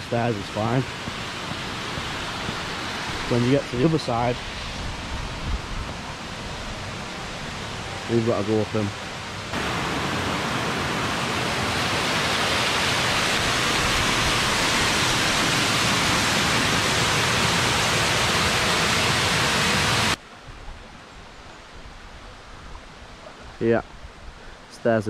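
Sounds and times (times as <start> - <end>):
waterfall roar: 0.0 - 20.2.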